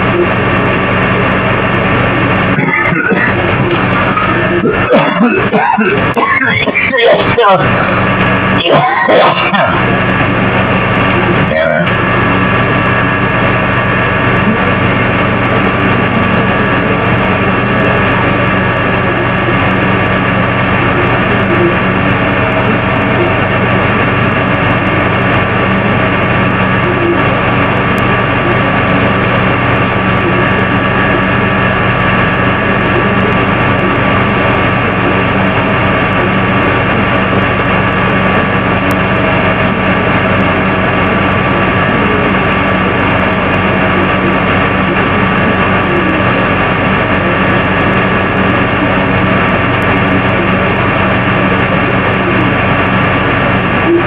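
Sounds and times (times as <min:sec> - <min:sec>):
steady hum tones: 0:00.0 - 0:54.0.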